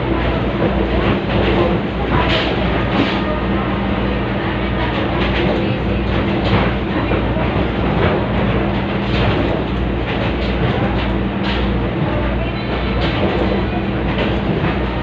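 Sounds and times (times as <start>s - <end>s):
rumble of train cars: 0.0s - 15.0s
train engine drone: 0.0s - 15.0s.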